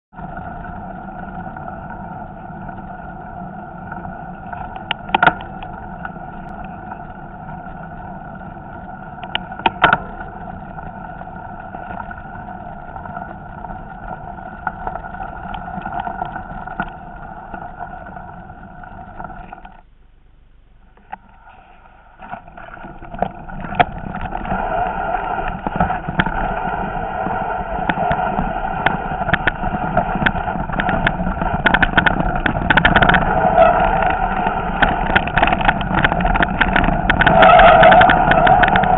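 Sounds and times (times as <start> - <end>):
bike rolling on gravel: 0.1 - 19.9, 21.3 - 38.9
bike rattling on rocks: 1.6 - 19.8, 22.2 - 38.9.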